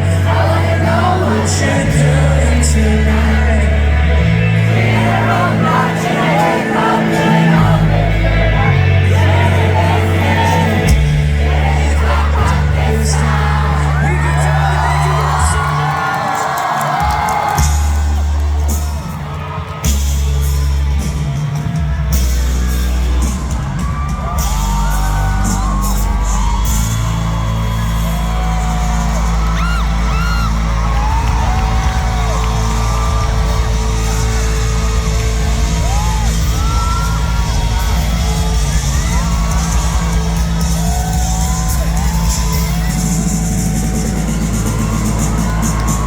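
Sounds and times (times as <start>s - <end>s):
audience whooping and screaming: 0.0s - 46.0s
live band music with heavy bass: 0.0s - 46.0s.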